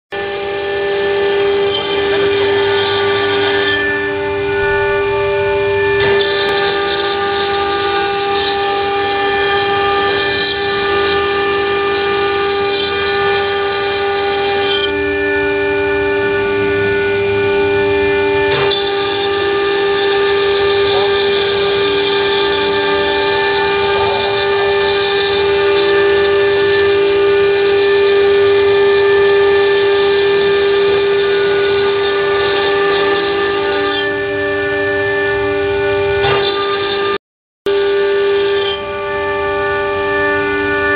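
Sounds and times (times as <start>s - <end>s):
bit cutting into stone: 0.1s - 40.9s
router spindle whining: 0.1s - 40.9s.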